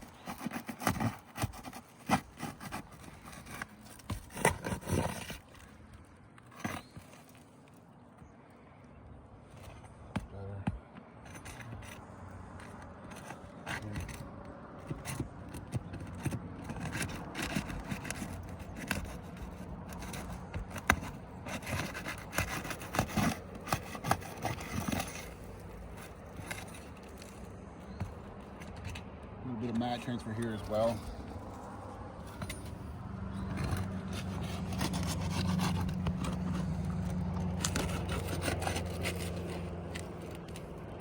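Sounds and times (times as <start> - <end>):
tool scraping under shingles: 0.0 - 8.6, 9.3 - 41.0.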